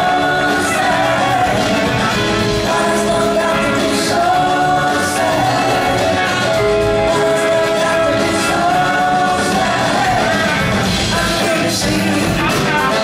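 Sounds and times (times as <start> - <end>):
blues-rock band playing: 0.0 - 13.0
person singing: 0.0 - 13.0.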